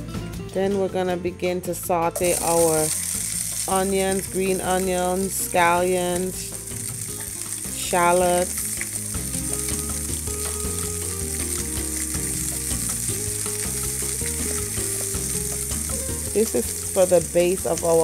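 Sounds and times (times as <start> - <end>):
onions sizzling in frying pan: 2.2 - 18.0.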